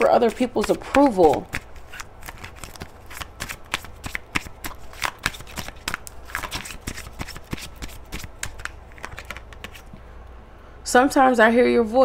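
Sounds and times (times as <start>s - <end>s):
cards being shuffled by hand: 0.0s - 10.0s.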